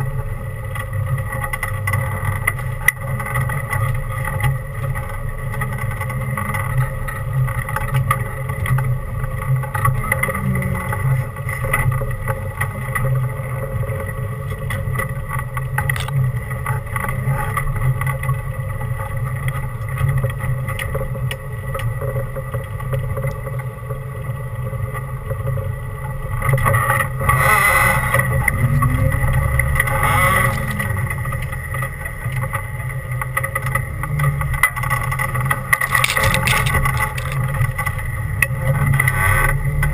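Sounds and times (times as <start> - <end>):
constant whine: 0.0 - 39.9
off-road vehicle engine rumble: 0.0 - 39.9.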